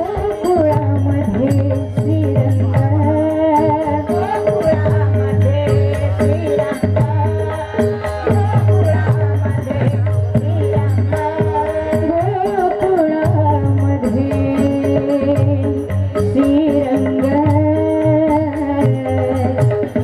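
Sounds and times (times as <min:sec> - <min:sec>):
women singing devotional chorus: 0:00.0 - 0:19.6
percussion strikes: 0:00.0 - 0:20.0.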